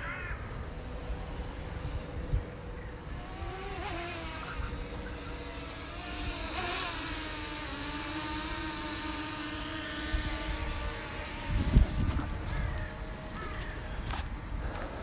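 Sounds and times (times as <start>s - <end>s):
drone propellers whining: 0.0s - 15.0s
wind buffeting microphone: 0.6s - 15.0s.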